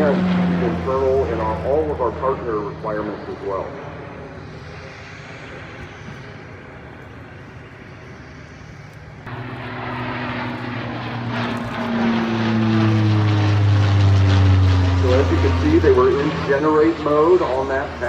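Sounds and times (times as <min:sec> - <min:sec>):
propeller aircraft passing: 0:00.0 - 0:18.0.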